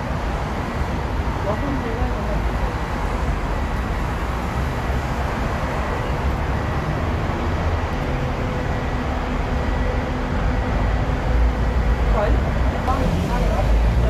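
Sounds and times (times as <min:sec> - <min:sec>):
street traffic: 0:00.0 - 0:14.0
tram rumbling on tracks: 0:00.0 - 0:14.0.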